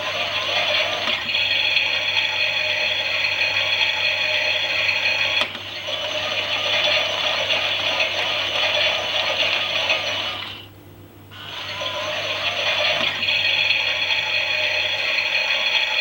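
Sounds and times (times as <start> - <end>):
toy washing machine whirring: 0.0 - 10.7, 11.3 - 16.0.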